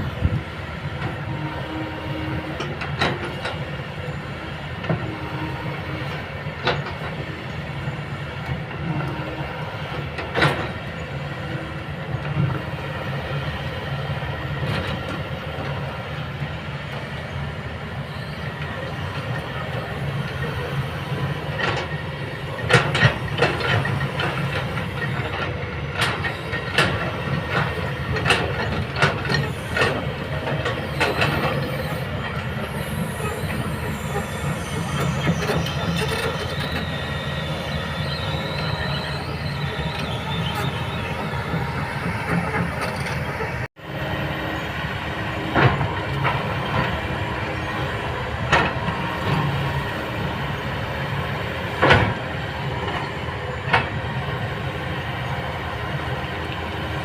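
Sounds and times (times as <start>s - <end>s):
excavator diesel engine drone: 0.0s - 57.0s
metallic clanks and squeals: 0.2s - 16.0s, 16.8s - 55.7s.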